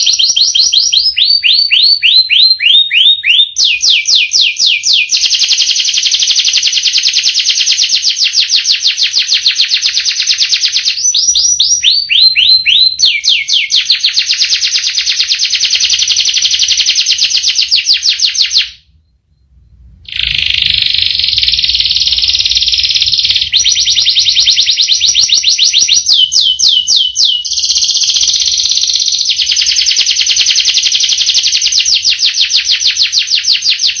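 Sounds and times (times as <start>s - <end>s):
canary singing trills: 0.0s - 19.2s, 20.0s - 34.0s.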